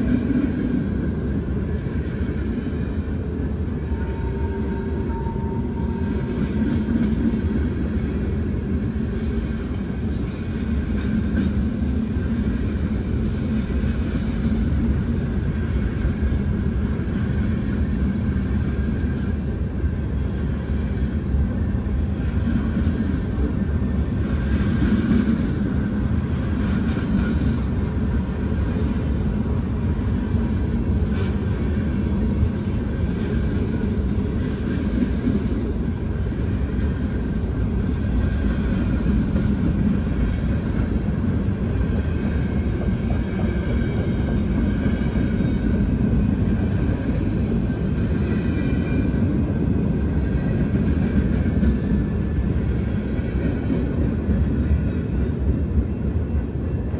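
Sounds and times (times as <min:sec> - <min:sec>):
freight train cars rumbling: 0:00.0 - 0:56.9.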